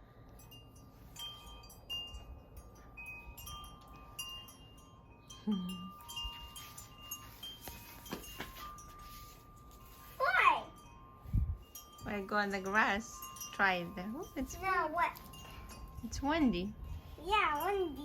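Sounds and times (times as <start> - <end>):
wind chimes ringing: 0.1 - 18.0.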